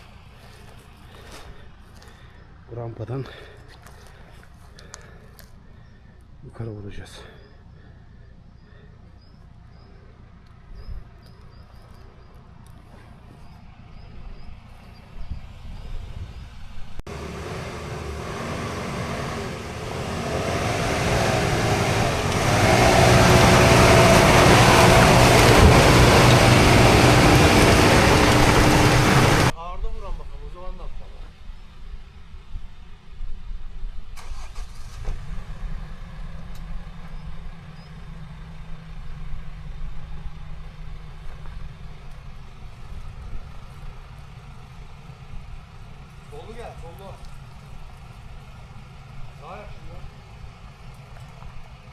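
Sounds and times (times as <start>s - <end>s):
off-road engine under load: 0.0s - 29.6s, 33.8s - 51.9s.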